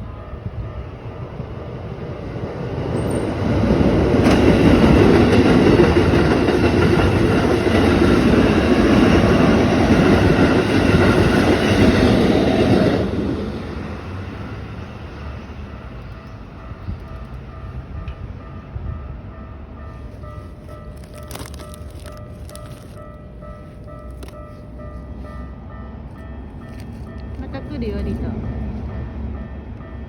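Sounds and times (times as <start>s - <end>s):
train wheels rumbling and clattering: 0.0s - 30.0s.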